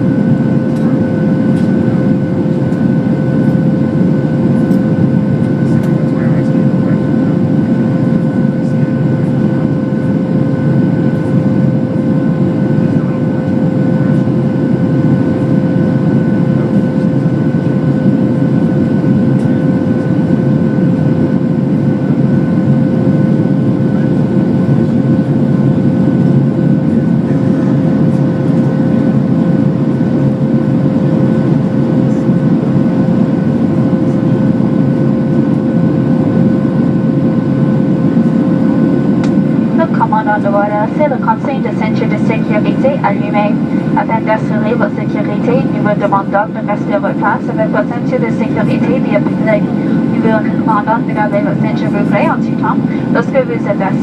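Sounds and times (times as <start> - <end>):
airplane cabin engine and airflow rush: 0.0 - 54.0
steady hum tones: 0.0 - 54.0.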